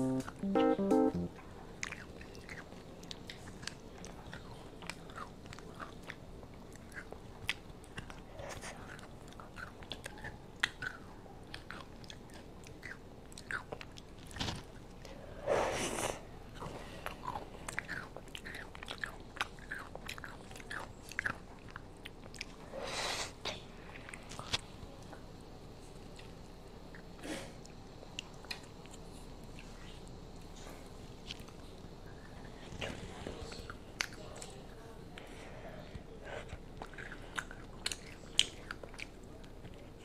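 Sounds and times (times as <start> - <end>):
child chewing crunchy ice cream cone: 1.7 - 40.0.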